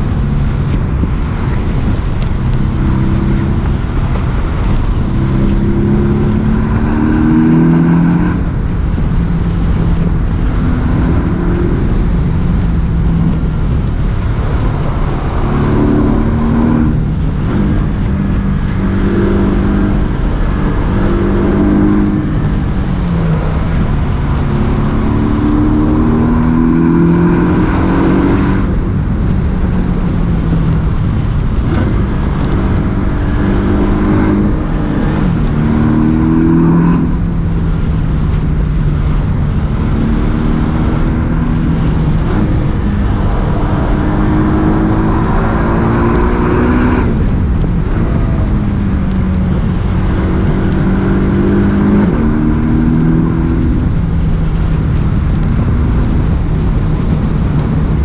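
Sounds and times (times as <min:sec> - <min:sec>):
car engine accelerating: 0:00.0 - 0:58.0
steady low rumble: 0:00.0 - 0:58.0.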